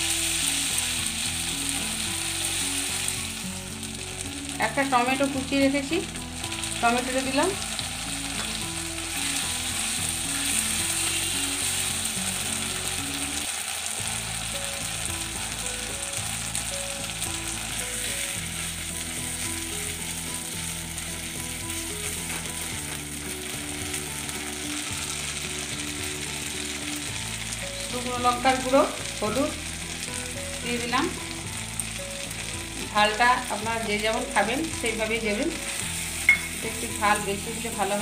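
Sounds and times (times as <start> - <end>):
paste sizzling in oil: 0.0 - 38.0.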